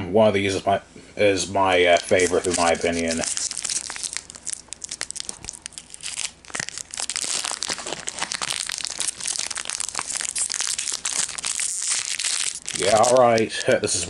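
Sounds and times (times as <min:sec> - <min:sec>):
wrapper tearing and crinkling: 0:01.8 - 0:14.0.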